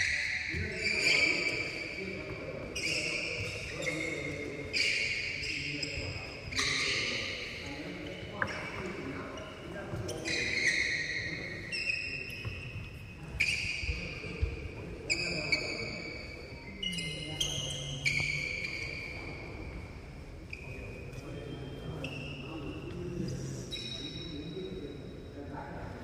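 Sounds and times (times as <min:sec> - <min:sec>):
shoes squeaking on wooden floor: 0:00.0 - 0:24.3.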